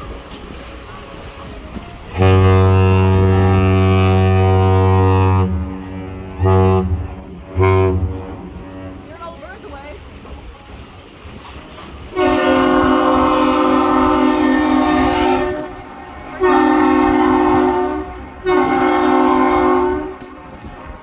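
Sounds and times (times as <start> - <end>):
ship horn blasts: 0.0 - 21.0.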